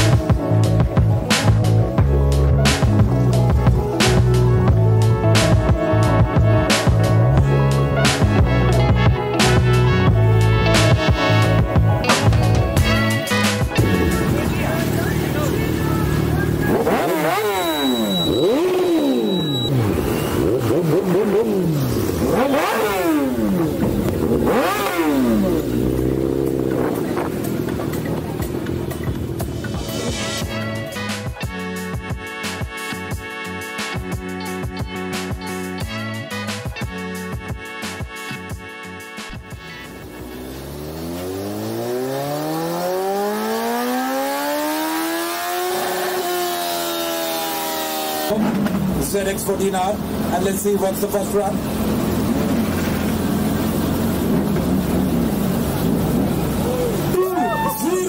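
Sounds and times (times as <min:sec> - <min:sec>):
motorcycle engine revving: 0:00.0 - 0:31.4, 0:39.2 - 0:57.2.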